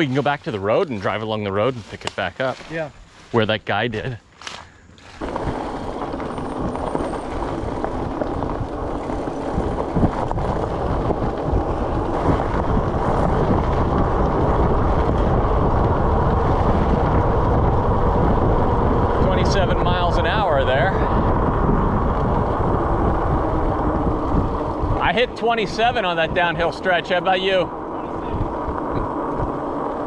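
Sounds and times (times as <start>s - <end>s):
tyres rolling on gravel: 5.0s - 30.0s
wind rushing over microphone: 5.1s - 30.0s.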